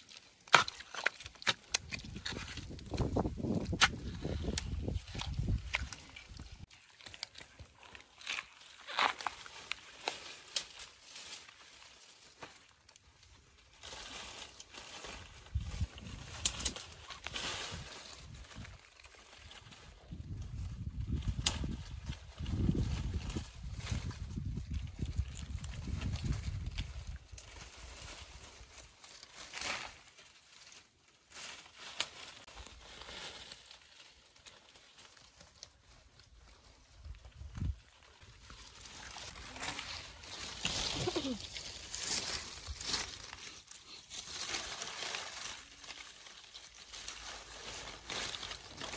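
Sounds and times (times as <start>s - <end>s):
shrub branches rustling: 0.0s - 48.9s.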